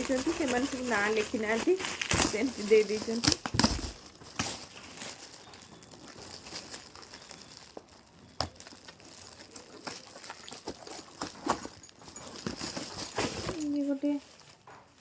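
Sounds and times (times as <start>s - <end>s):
wrapping paper crinkling: 0.0s - 15.0s.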